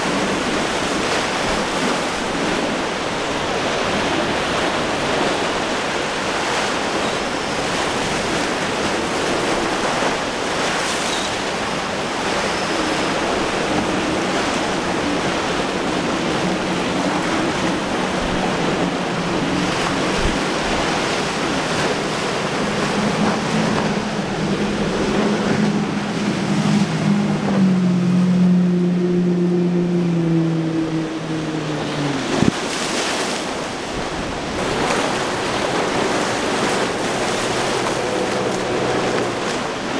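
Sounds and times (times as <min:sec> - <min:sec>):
boat outboard engines droning: 0:00.0 - 0:39.9
surf rushing: 0:00.0 - 0:39.9
wind noise on microphone: 0:00.0 - 0:39.9.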